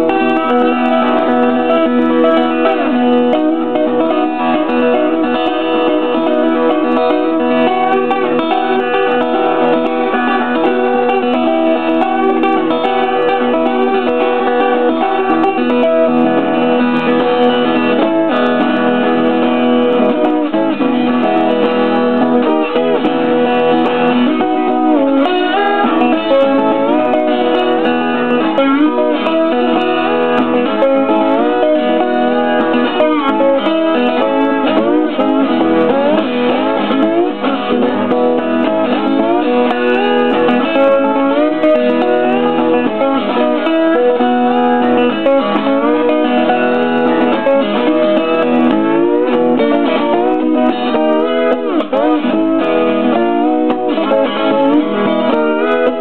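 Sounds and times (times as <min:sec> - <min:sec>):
slide acoustic guitar fingerpicking: 0:00.0 - 0:56.0.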